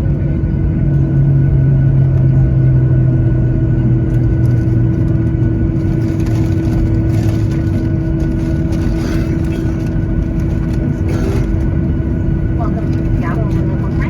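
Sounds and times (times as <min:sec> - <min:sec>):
jet engine cabin drone: 0:00.0 - 0:14.0.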